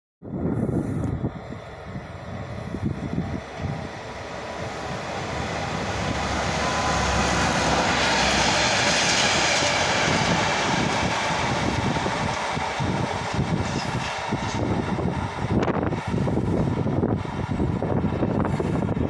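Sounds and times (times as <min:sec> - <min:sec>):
diesel locomotive engine: 0:00.2 - 0:19.0
freight train rolling by: 0:00.3 - 0:19.0.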